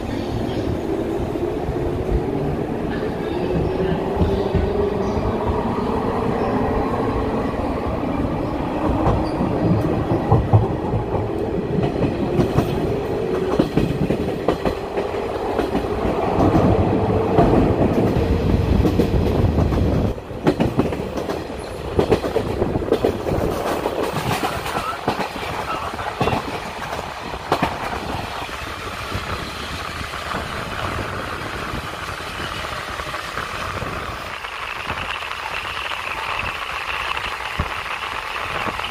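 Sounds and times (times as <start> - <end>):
train rushing noise: 0.0 - 38.9.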